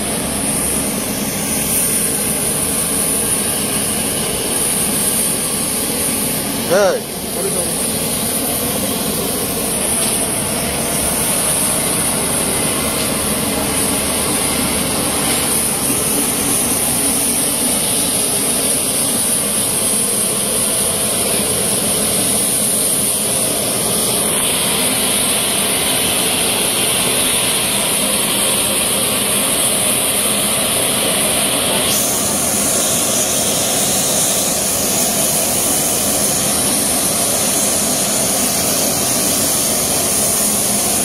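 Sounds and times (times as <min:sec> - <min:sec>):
aircraft turbine whine and rumble: 0:00.0 - 0:41.0
bright hiss: 0:00.0 - 0:41.0.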